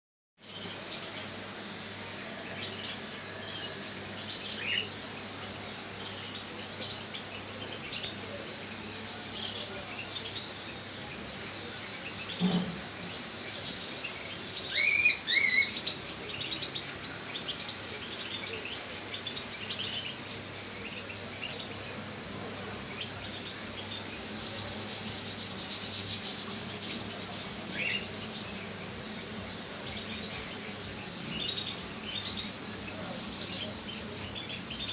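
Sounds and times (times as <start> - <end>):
songbirds chirping: 0.4 - 34.9.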